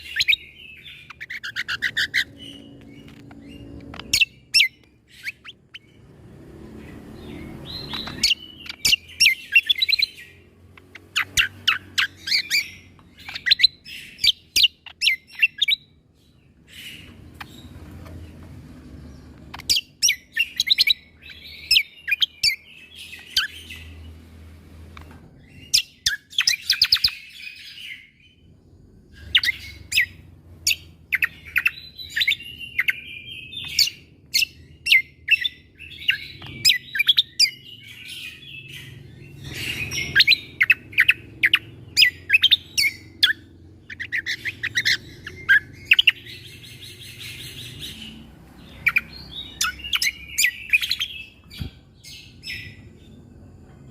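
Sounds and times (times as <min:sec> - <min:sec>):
songbird singing piercing notes: 0:00.0 - 0:53.9.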